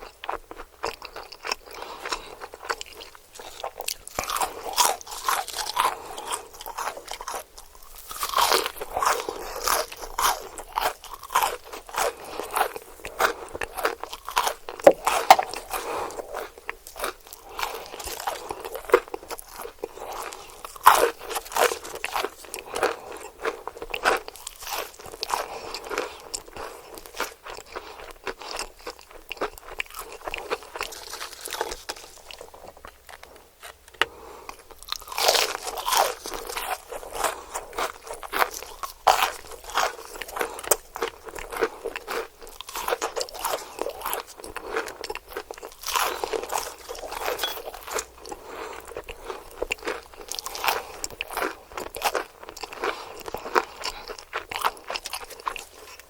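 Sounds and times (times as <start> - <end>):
crunching fried chicken: 0.0 - 56.0.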